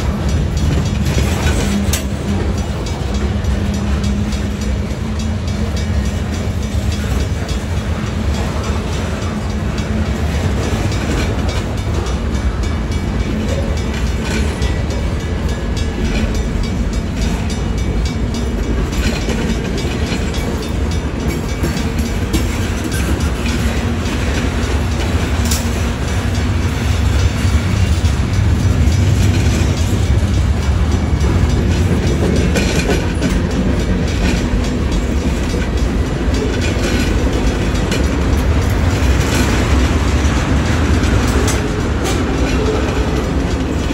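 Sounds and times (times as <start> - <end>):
freight train low rumble: 0.0 - 43.9
wheels clacking on rail joints: 0.0 - 43.9.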